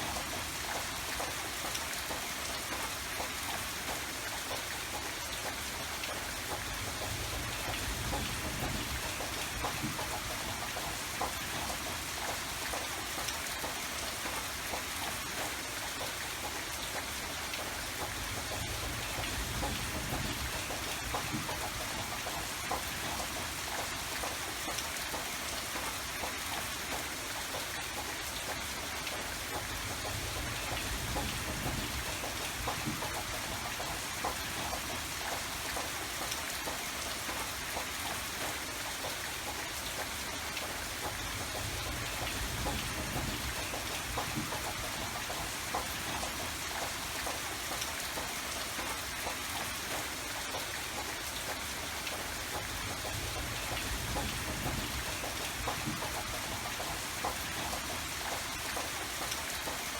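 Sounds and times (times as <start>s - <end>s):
raindrops pattering: 0.0s - 59.9s.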